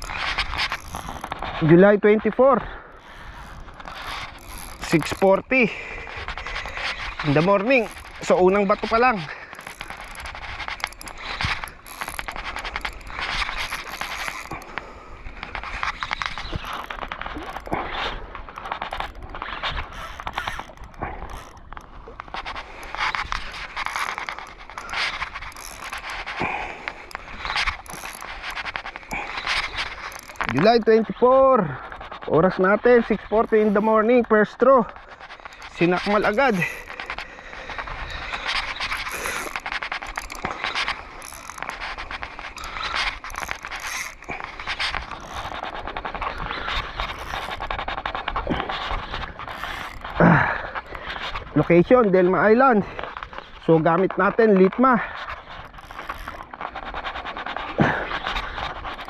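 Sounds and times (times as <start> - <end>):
fishing reel clicking: 0.0 - 59.0
hands rubbing on reel and rod: 0.0 - 59.0.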